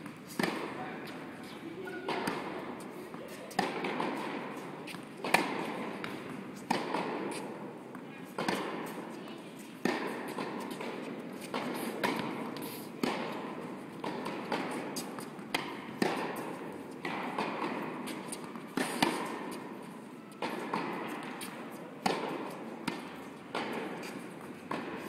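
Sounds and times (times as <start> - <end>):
tennis balls bouncing on court: 0.0 - 25.0
tennis balls struck by rackets: 0.0 - 25.0.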